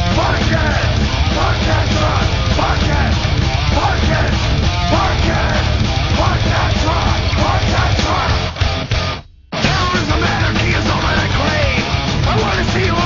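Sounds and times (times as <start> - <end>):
heavy metal band playing: 0.0 - 13.0.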